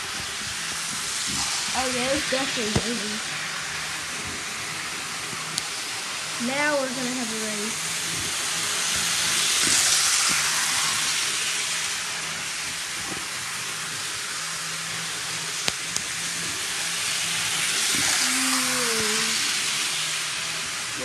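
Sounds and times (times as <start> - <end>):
model train motors whirring: 0.0 - 21.0.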